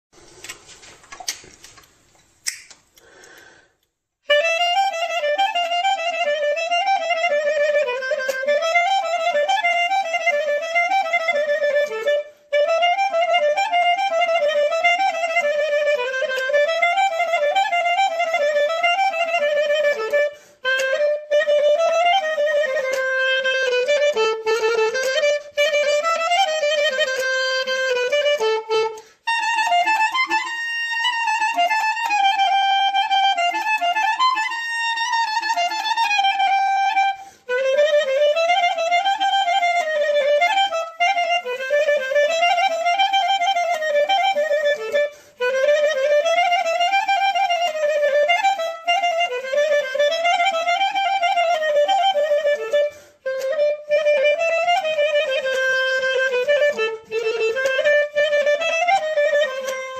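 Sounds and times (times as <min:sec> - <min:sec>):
solo clarinet folk tune: 0:04.2 - 0:59.9.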